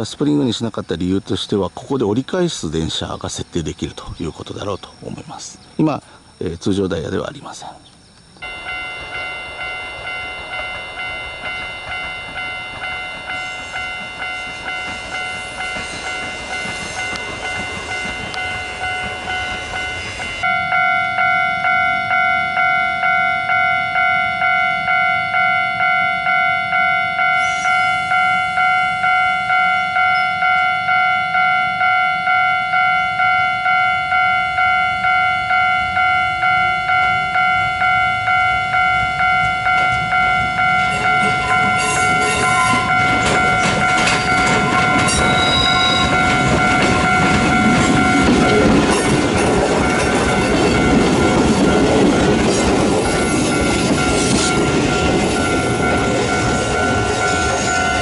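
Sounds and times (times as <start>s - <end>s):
level-crossing warning bell ringing: 8.4s - 58.0s.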